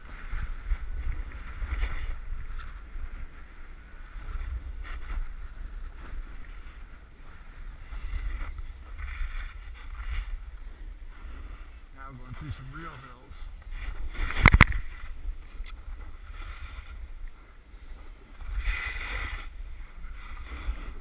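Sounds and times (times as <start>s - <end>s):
wind buffeting a microphone: 0.0s - 21.0s.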